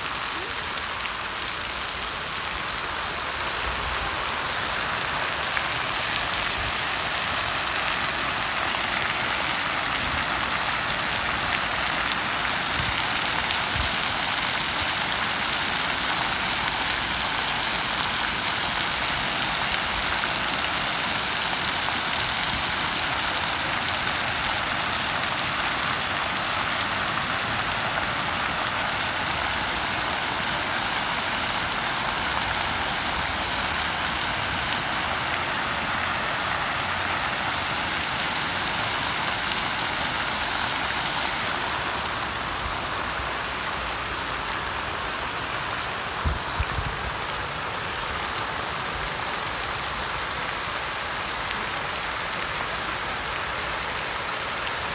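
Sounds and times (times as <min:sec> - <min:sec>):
fountain water splashing: 0:00.0 - 0:54.9.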